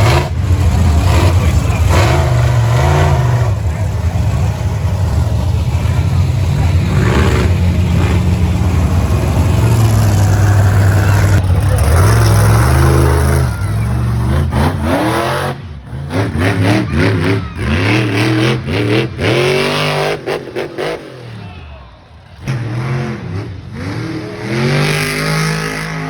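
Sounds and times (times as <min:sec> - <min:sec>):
truck engine revving: 0:00.0 - 0:21.4, 0:22.4 - 0:26.0.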